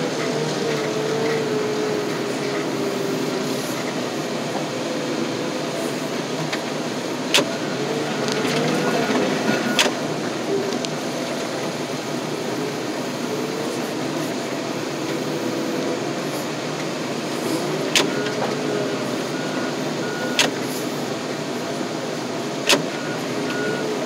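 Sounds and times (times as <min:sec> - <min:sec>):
diesel engine running: 0:00.0 - 0:24.0
hydraulic whine: 0:00.0 - 0:24.0.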